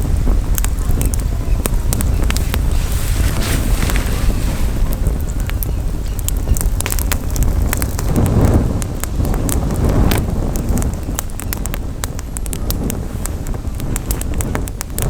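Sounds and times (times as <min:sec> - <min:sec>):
campfire crackling and popping: 0:00.0 - 0:15.0
wind rumble on microphone: 0:00.0 - 0:15.0.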